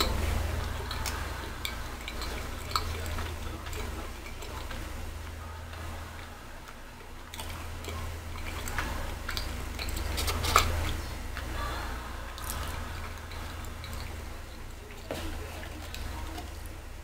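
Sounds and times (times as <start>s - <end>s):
chewing with wet mouth clicks: 0.0s - 11.5s, 12.3s - 16.8s
low hum: 0.0s - 17.0s.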